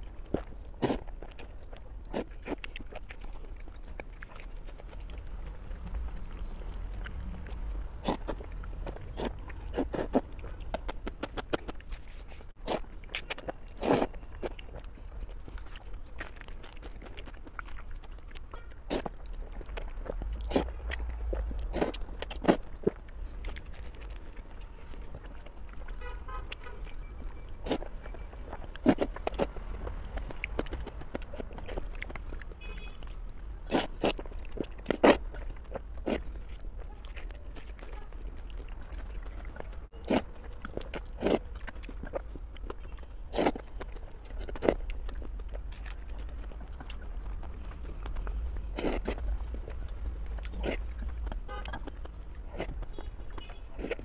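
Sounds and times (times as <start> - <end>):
chewing noodles: 0.0 - 54.0
crunching bites of flatbread: 0.0 - 54.0.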